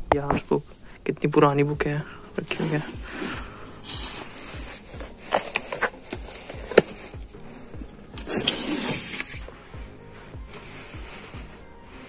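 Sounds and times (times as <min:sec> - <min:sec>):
hand brushing along book spines: 0:02.3 - 0:12.0.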